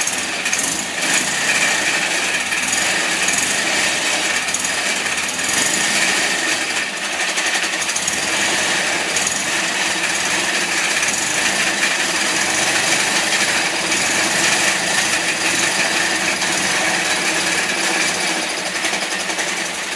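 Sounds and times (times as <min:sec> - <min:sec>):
small engine running: 0:00.0 - 0:19.9.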